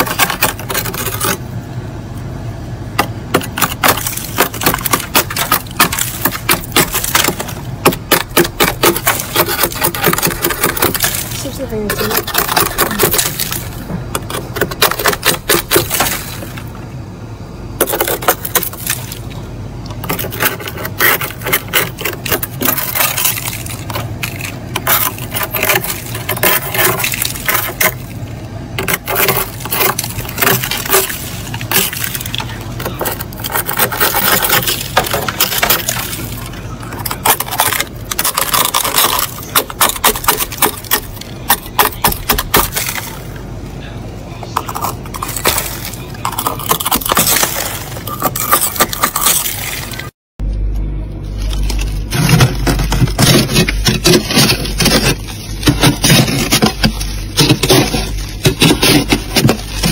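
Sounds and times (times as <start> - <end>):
plastic scraper scraping frost: 0.0 - 1.4, 3.0 - 16.8, 20.0 - 28.1, 28.8 - 43.3, 44.6 - 50.1, 51.3 - 59.9.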